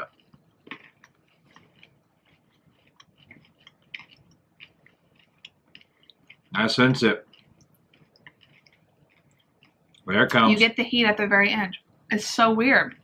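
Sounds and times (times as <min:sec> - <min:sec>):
faint chewing of candy: 0:00.0 - 0:10.6.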